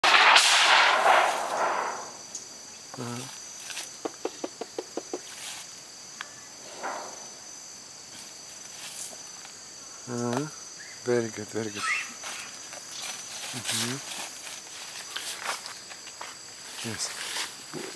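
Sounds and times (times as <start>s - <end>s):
high insect drone: 0.0s - 17.9s.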